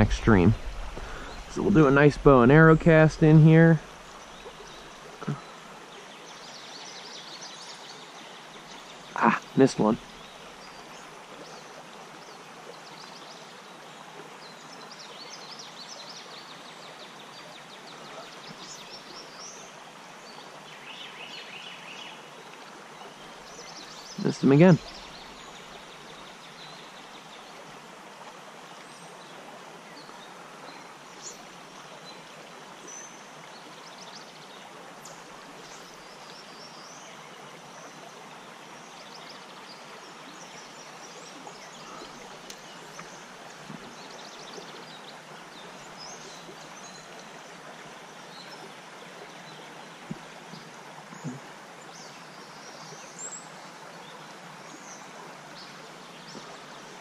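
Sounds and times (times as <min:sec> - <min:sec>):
creek running over rocks: 0:00.0 - 0:57.0.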